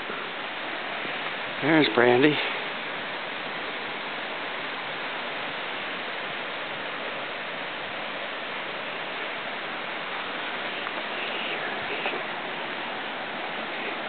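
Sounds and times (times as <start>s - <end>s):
water rushing over spillway: 0.0s - 14.0s.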